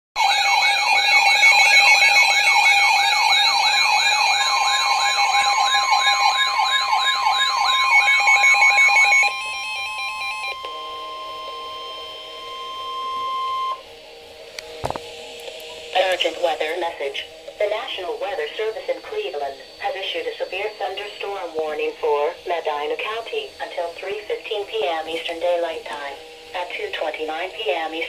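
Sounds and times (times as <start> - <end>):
steady single-pitch alarm tone: 0.2 - 28.0
sweeping siren-like alarms: 0.2 - 28.0
steady lower tones: 0.9 - 28.0.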